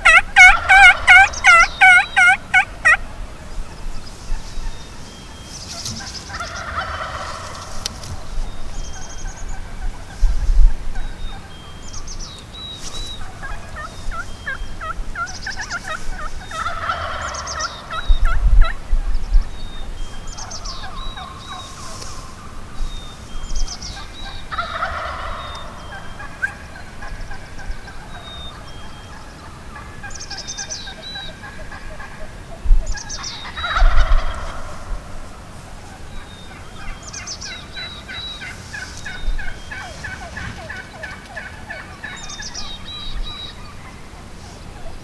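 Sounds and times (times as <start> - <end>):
turkey gobbling: 0.0 - 11.7, 13.2 - 18.8, 20.3 - 22.4, 23.9 - 45.0
small birds chirping: 0.0 - 45.0.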